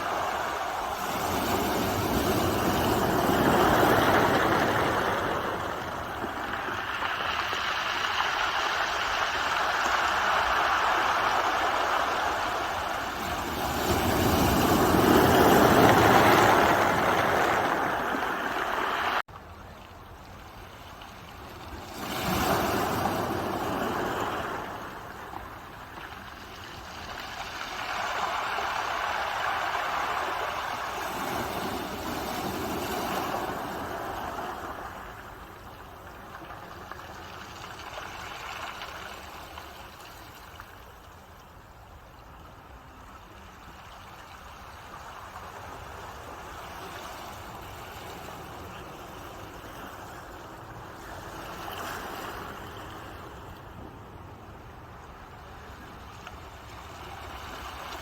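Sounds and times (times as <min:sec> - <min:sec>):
ocean waves breaking on shore: 0:00.0 - 0:19.3, 0:20.4 - 0:58.0.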